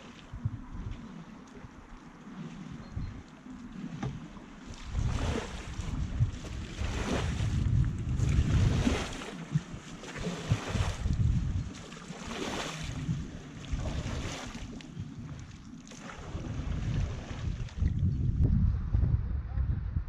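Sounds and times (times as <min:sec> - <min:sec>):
wind buffeting microphone: 0:00.0 - 0:02.0, 0:02.6 - 0:11.8, 0:12.4 - 0:15.6, 0:16.2 - 0:20.0
water moving around canoe: 0:00.0 - 0:18.9.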